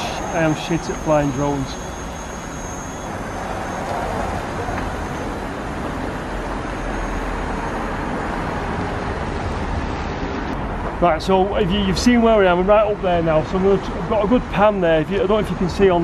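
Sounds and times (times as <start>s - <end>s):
city road traffic hum: 0.0s - 16.0s.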